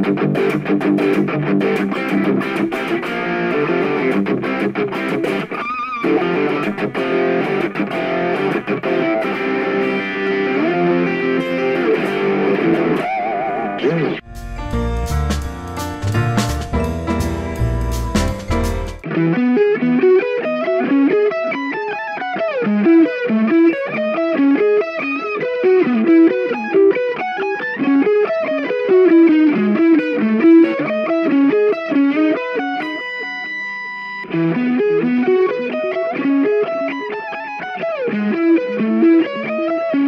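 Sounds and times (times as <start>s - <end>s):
electric guitar lead melody: 0.0s - 40.0s.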